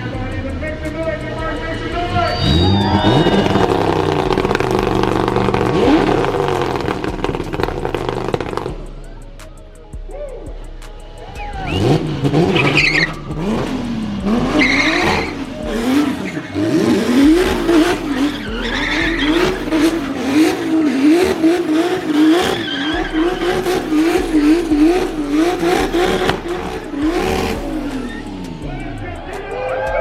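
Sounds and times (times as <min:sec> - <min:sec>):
tires squealing: 0:00.0 - 0:08.8, 0:11.1 - 0:30.0
car engine revving: 0:00.0 - 0:30.0.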